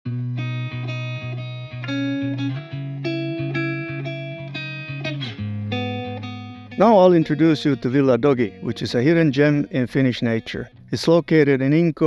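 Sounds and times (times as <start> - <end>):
guitar background music: 0.1 - 12.0.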